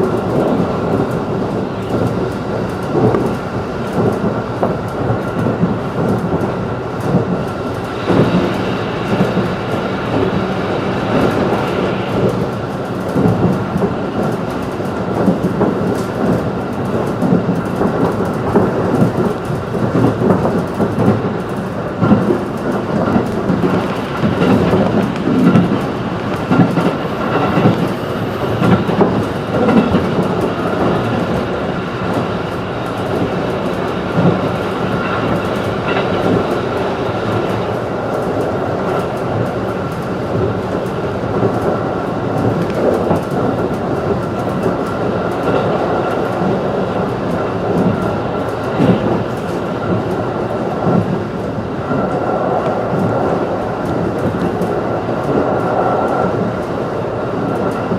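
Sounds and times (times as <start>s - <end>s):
clickety-clack over rail joints: 0.0s - 57.9s
train wheels rumbling on rail: 0.0s - 57.9s.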